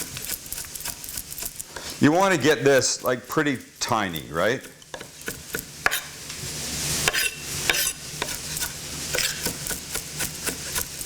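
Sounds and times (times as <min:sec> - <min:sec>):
knife mincing on cutting board: 0:00.0 - 0:06.2, 0:07.0 - 0:11.0
onion sizzling in a pan: 0:00.0 - 0:11.0.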